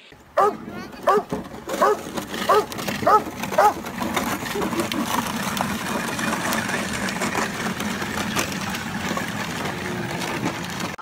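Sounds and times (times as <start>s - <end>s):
plastic wheels rumbling: 0.1s - 11.0s
shovel blade scraping snow: 0.9s - 11.0s.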